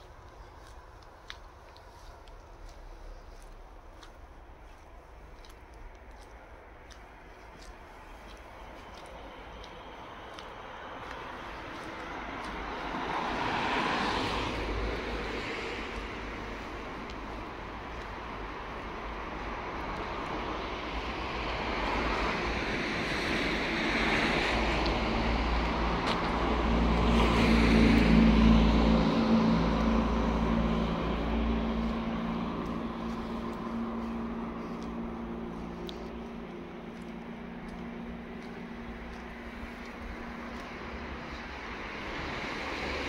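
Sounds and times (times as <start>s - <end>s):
low engine hum: 0.0s - 43.0s
road traffic passing: 0.0s - 43.0s.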